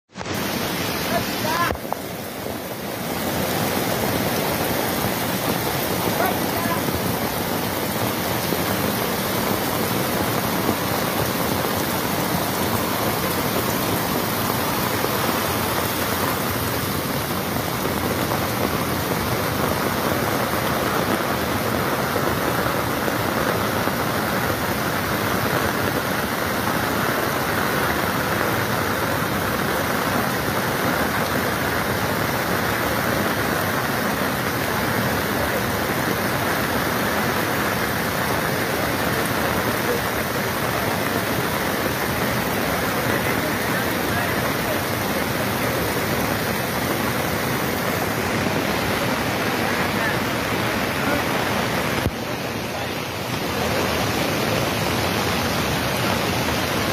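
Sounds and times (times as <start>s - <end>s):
heavy rain: 0.1s - 56.9s
river in flood rushing: 0.1s - 56.9s.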